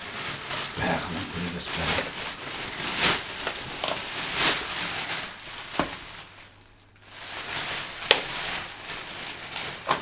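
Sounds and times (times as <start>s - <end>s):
plastic parts rustling: 0.0s - 10.0s.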